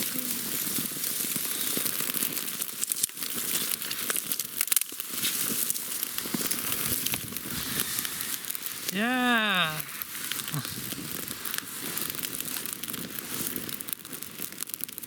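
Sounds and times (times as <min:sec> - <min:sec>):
kindling fire crackling: 0:00.0 - 0:15.0.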